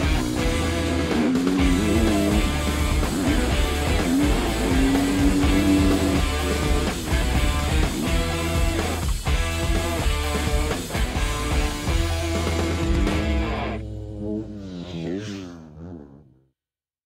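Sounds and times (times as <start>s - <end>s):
electric guitar melody: 0.0s - 14.4s
low bass line: 0.0s - 16.3s.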